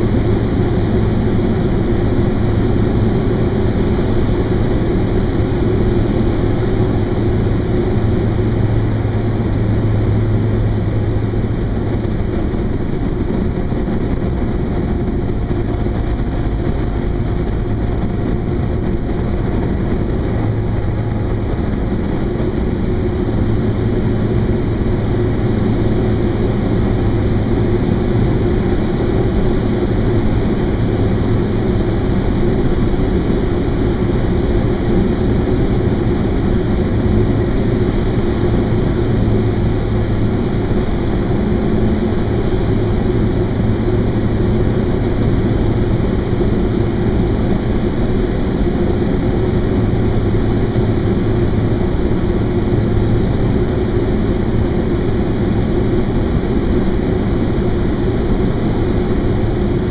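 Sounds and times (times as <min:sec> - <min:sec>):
airplane engine and propeller drone: 0:00.0 - 0:59.9.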